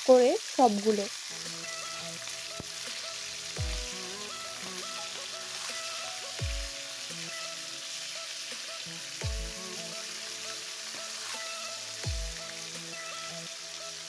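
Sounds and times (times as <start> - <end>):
fish deep-frying in oil: 0.0 - 14.0
background music: 0.9 - 14.0.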